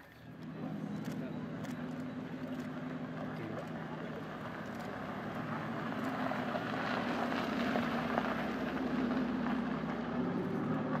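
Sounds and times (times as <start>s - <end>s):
car engine at low revs: 0.1s - 11.0s
tyres crunching over gravel: 0.4s - 11.0s.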